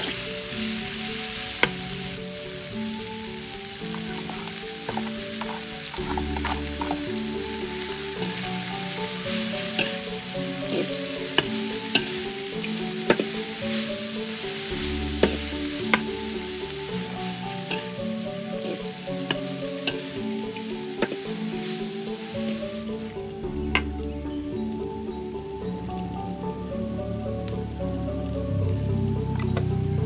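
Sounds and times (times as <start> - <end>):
vegetables sizzling in a wok: 0.0 - 29.1
background music: 0.0 - 30.0.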